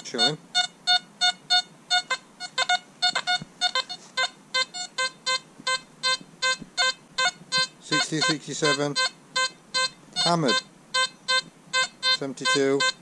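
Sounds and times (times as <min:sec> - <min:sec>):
metal detector electronic tones: 0:00.0 - 0:13.0.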